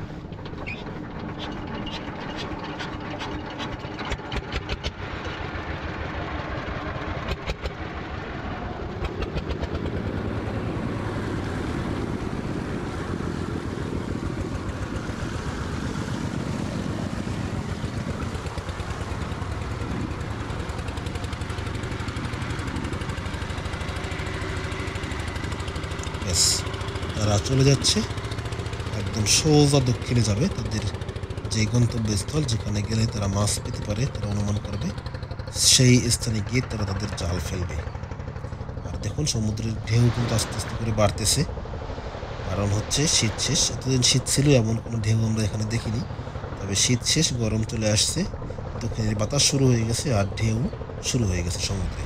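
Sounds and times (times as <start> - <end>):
diesel engine starting and running: 0.0 - 52.0.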